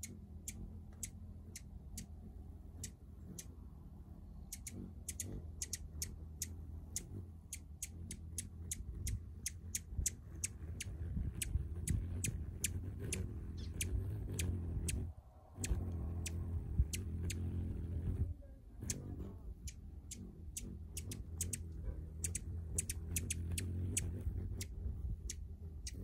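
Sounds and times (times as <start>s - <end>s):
hummingbird chipping: 0.0s - 26.0s
hummingbird wings humming: 0.0s - 26.0s.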